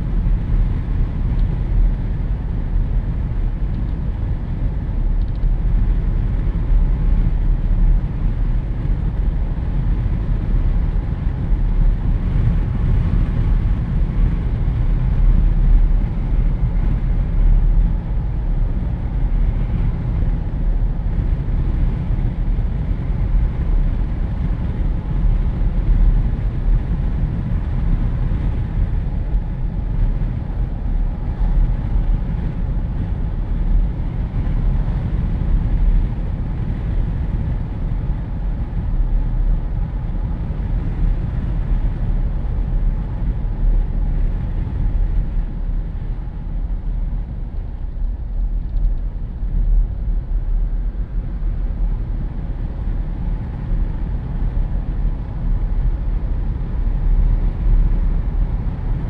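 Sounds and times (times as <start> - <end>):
vehicle road noise: 0.0 - 59.0
wind rushing through car windows: 0.0 - 59.0.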